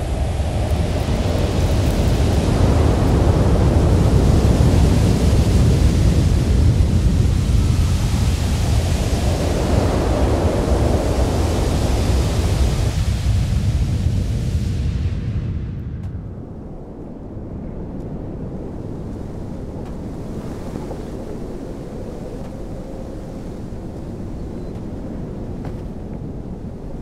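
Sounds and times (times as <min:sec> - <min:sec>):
rocket engines rumbling: 0:00.0 - 0:27.0.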